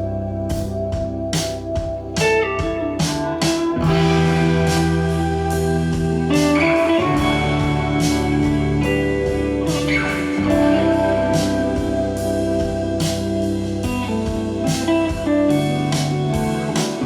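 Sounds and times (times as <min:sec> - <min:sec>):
bass guitar: 0:00.0 - 0:17.0
electric guitars: 0:00.0 - 0:17.0
programmed drum beat: 0:00.5 - 0:17.0.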